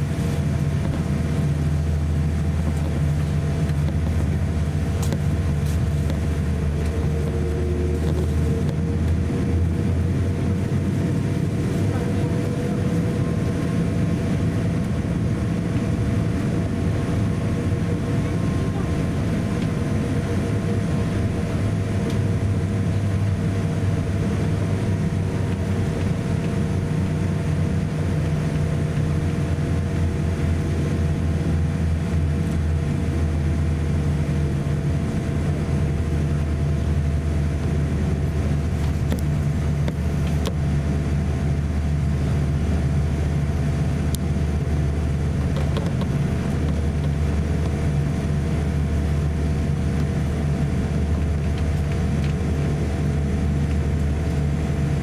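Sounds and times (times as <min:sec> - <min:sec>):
low engine rumble: 0:00.0 - 0:55.0
steady hums: 0:00.0 - 0:55.0.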